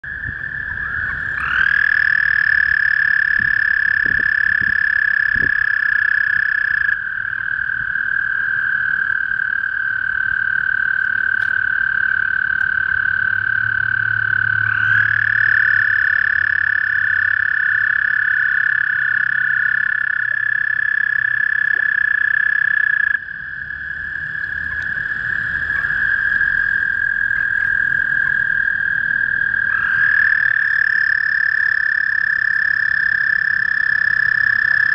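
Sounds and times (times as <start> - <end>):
toads trilling: 0.1 - 34.9.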